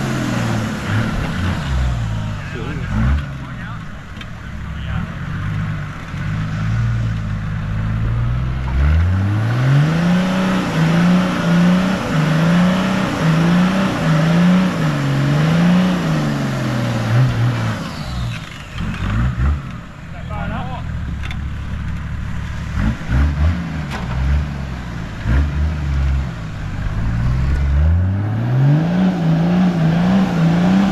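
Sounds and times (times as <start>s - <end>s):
vehicle engine revving hard: 0.0s - 3.7s, 4.8s - 19.9s, 22.6s - 30.9s.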